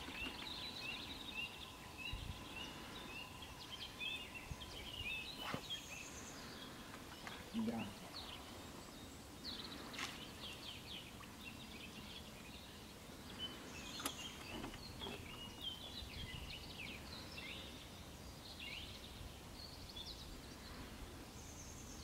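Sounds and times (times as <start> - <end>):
faint low background noise: 0.0 - 22.0
small birds singing: 0.0 - 22.0.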